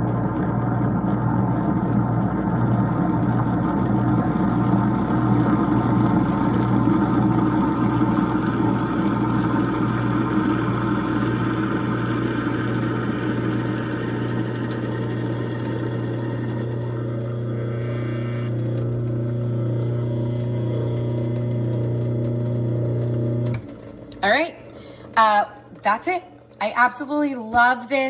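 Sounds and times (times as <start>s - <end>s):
garbage disposal motor hum: 0.0s - 28.0s.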